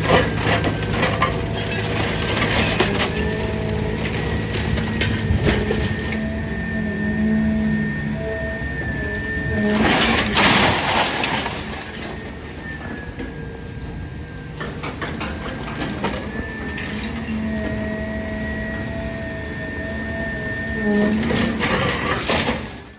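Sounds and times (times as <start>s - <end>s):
hydraulic whine of baler: 0.0s - 22.9s.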